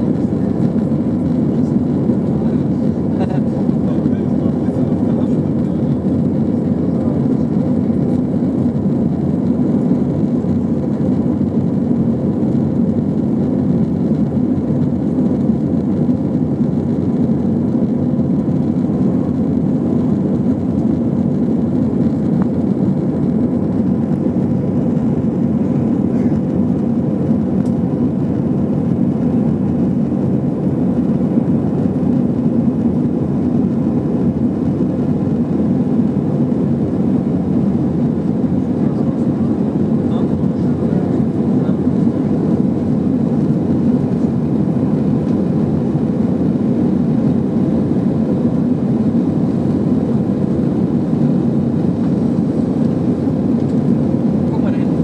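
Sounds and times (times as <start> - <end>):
aircraft cabin engine drone: 0.0 - 55.0.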